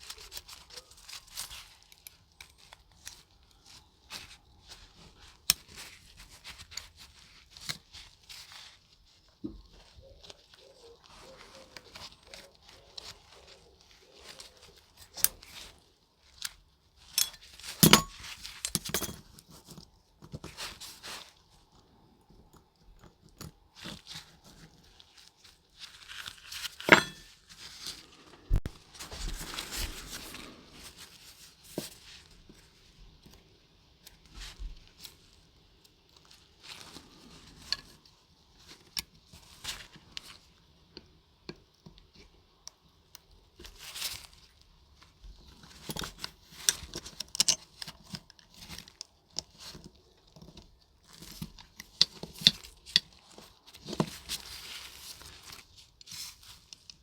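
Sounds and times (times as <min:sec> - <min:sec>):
rustling or scraping: 0:00.0 - 0:41.2, 0:43.5 - 0:57.0.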